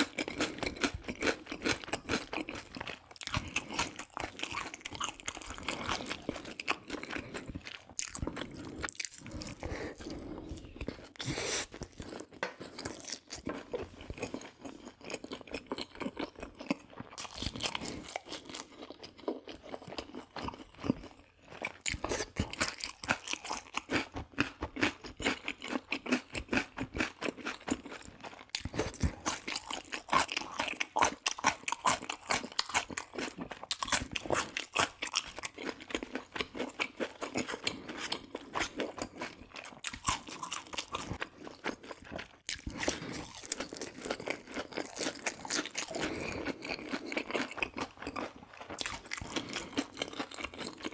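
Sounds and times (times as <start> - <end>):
crunching and chewing food: 0.0 - 50.9.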